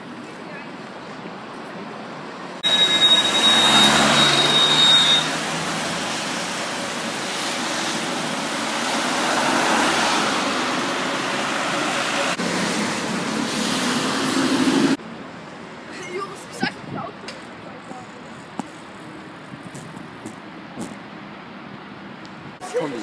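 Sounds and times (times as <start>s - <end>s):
car engines: 0.0s - 23.0s.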